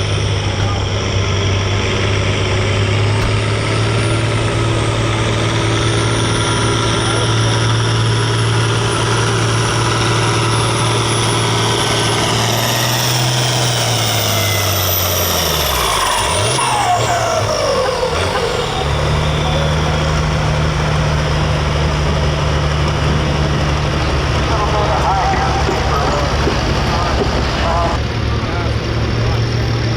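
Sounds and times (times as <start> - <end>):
tractor diesel engine running hard: 0.0 - 29.9.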